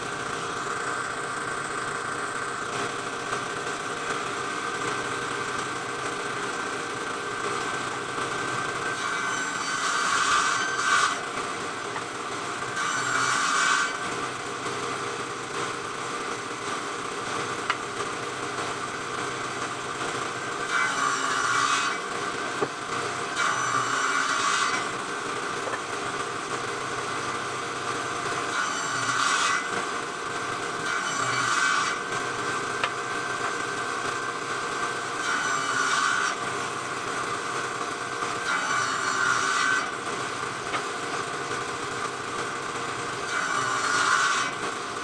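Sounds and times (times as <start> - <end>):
circular saw cutting wood: 0.0 - 45.0.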